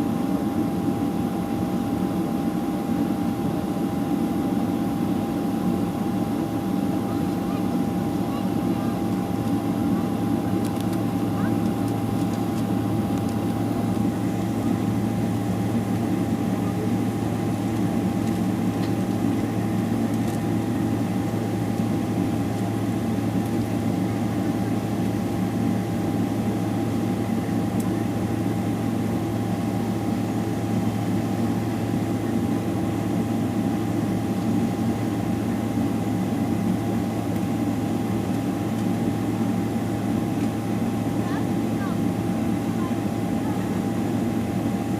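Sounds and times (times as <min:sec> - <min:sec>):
airliner cabin drone with whine: 0:00.0 - 0:44.9.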